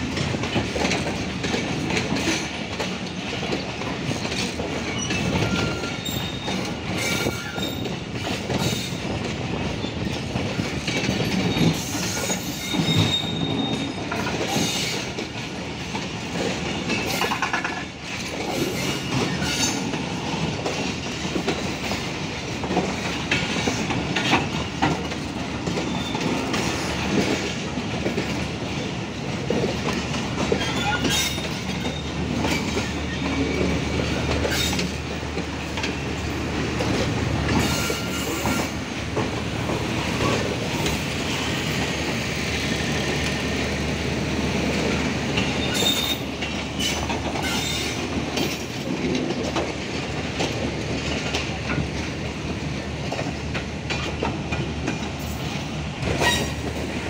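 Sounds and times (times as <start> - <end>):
train coaches rumbling past: 0.0 - 57.0
wheels clicking over rail joints: 0.0 - 57.0.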